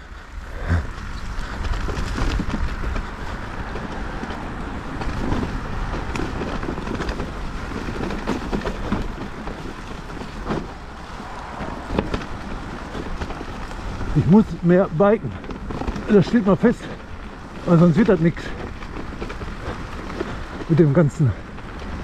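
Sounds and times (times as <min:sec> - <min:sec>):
tyres rumbling on trail: 0:00.0 - 0:22.0
wind buffeting microphone: 0:00.0 - 0:22.0
bike knocks and rattles: 0:00.3 - 0:22.0.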